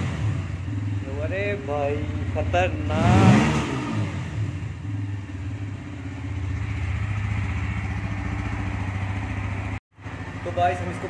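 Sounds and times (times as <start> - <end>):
motorcycle engine idling: 0.0 - 3.0, 4.2 - 11.0.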